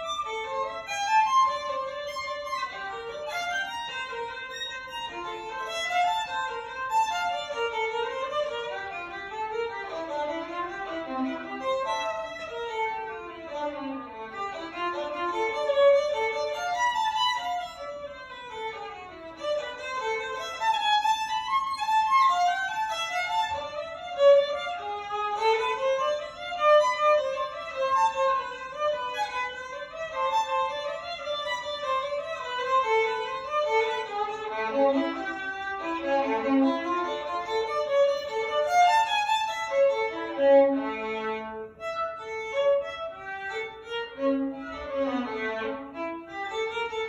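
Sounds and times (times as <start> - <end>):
solo violin playing fast runs: 0.0 - 47.0.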